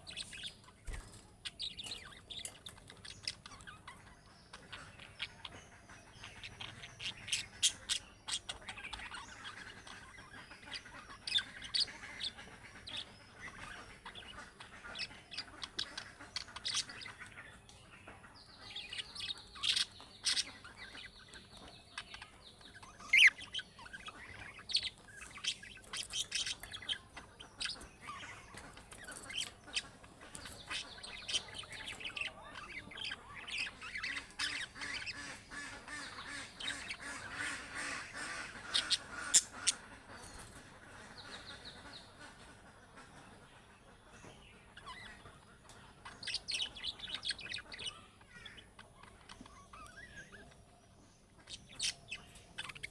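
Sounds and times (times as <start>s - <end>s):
budgerigars chirping and warbling: 0.0s - 52.9s.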